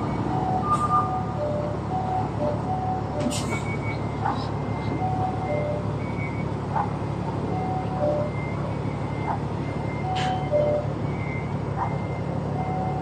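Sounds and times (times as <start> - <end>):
low engine hum: 0.0 - 13.0
reversing alarms beeping: 0.0 - 13.0.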